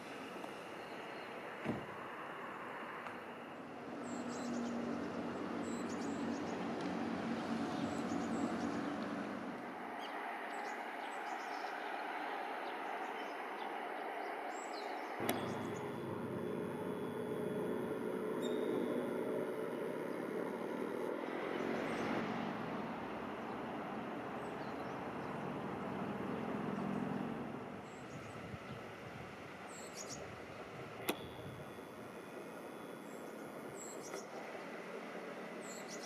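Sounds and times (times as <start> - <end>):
small birds chirping: 3.9 - 22.4, 23.3 - 29.0, 29.6 - 36.0.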